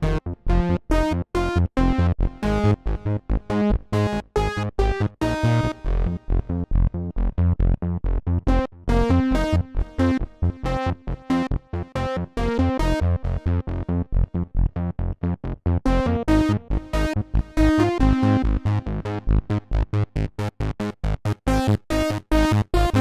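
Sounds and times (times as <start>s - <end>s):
deep synth bass notes: 0.0s - 23.0s.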